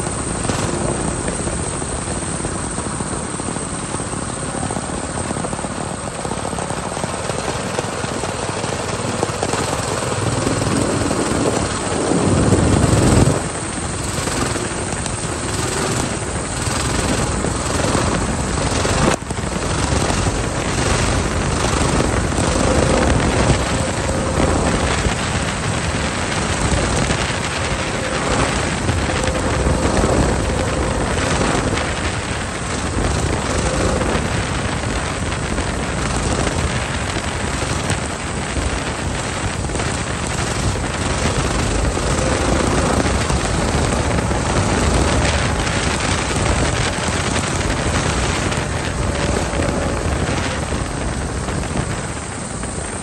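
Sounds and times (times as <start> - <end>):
minibike engine running: 0.0 - 53.0
wind on microphone: 0.0 - 53.0.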